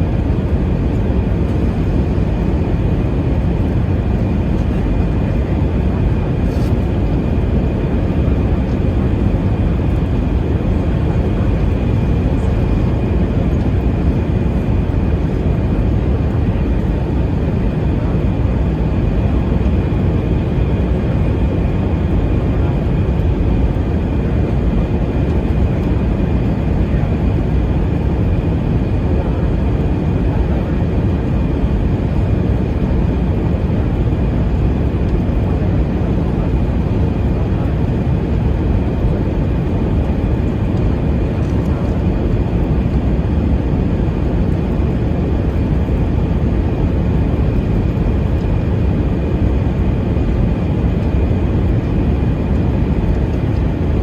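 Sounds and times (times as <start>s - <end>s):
airflow rush in aircraft cabin: 0.0s - 54.0s.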